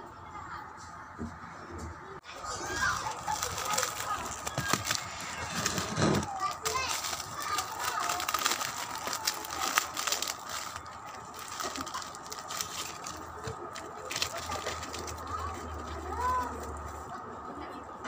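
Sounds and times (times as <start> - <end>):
plastic bag crinkling: 2.3 - 17.2.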